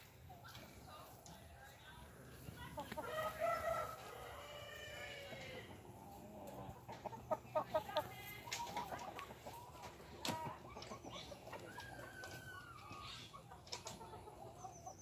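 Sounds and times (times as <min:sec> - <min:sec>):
chickens clucking: 0:00.0 - 0:15.0
drawn-out chicken call: 0:02.8 - 0:15.0.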